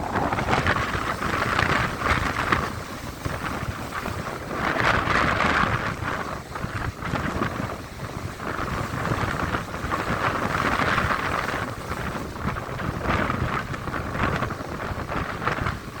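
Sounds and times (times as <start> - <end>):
sea waves breaking: 0.0 - 16.0
wind rumbling on microphone: 0.0 - 16.0.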